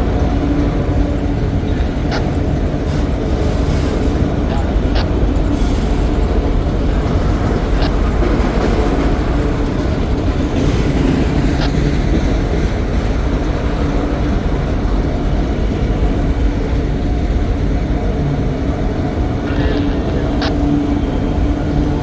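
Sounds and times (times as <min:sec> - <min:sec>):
steel wheels rumbling on rails: 0:00.0 - 0:22.0.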